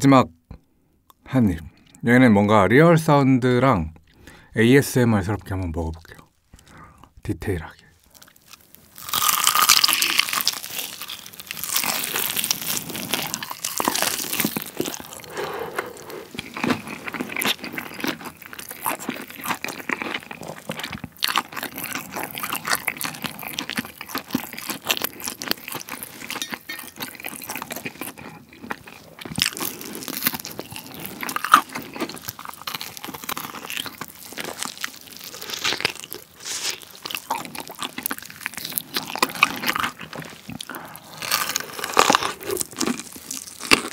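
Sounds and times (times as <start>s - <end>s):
chewing with crust crackling: 5.3s - 43.9s
crunchy bite: 8.1s - 43.9s.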